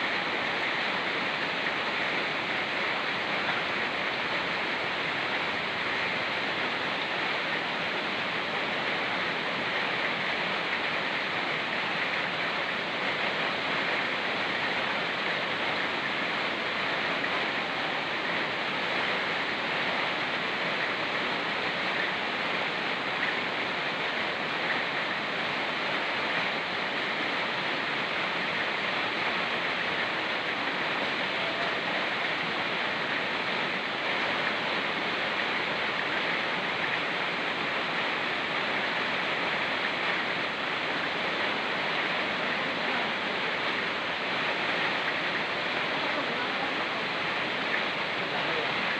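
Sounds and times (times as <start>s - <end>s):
falling rain: 0.0s - 48.9s
river rushing over rocks: 0.0s - 48.9s.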